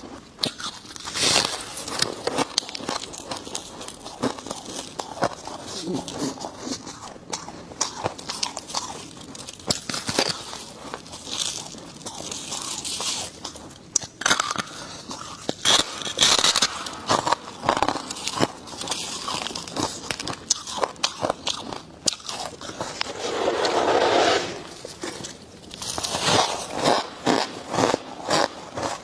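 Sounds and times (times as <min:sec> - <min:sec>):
chewing crunchy frost chunks: 0:00.0 - 0:23.2, 0:24.6 - 0:29.0.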